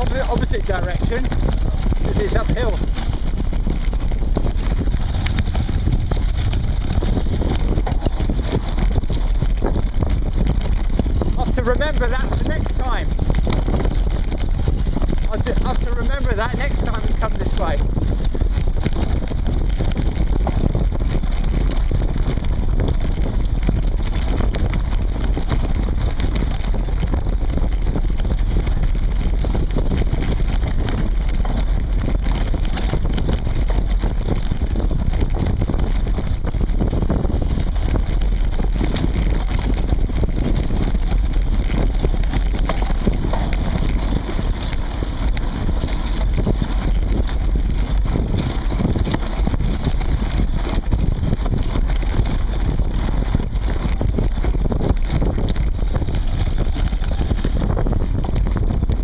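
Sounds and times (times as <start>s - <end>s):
bike rattles and knocks: 0.0s - 59.0s
bike tyres rumbling on dirt: 0.0s - 59.0s
wind buffeting microphone: 0.0s - 59.0s.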